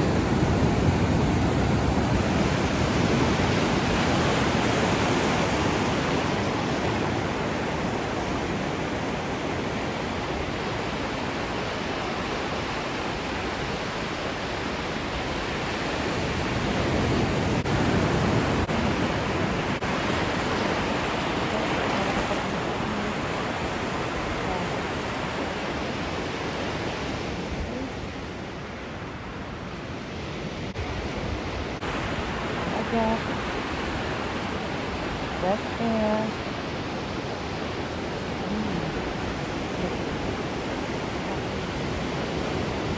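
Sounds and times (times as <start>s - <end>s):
ocean waves breaking on shore: 0.0s - 42.9s.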